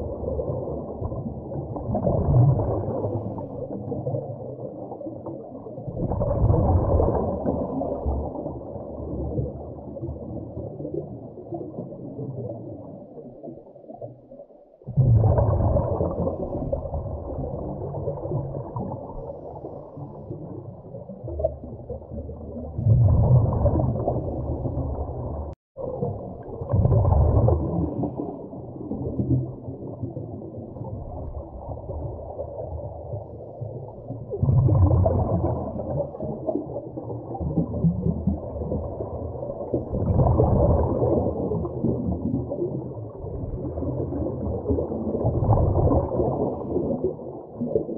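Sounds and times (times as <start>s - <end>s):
muffled underwater rumble: 0.0s - 47.9s.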